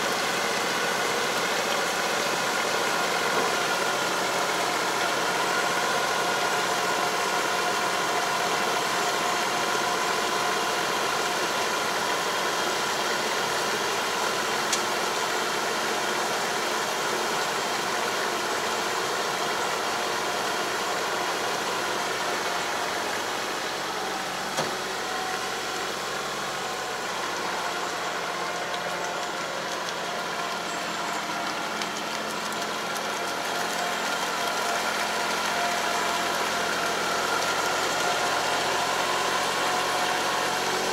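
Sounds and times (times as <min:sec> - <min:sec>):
tractor engine droning: 0:00.0 - 0:40.9.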